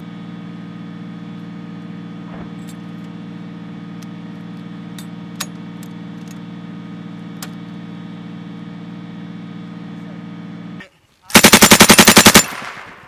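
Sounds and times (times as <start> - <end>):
engine idling: 0.0 - 12.4.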